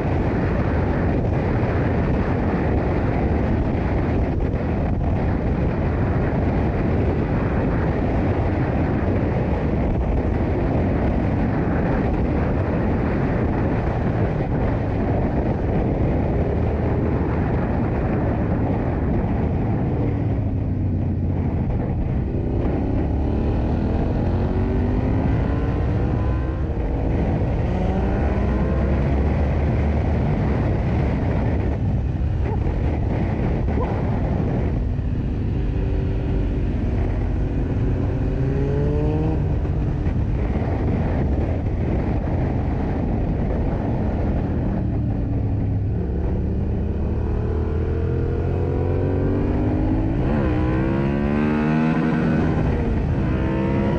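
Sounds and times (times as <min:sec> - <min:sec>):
motorcycle engine accelerating: 0:00.0 - 0:53.9
wind rumble on microphone: 0:00.0 - 0:53.9.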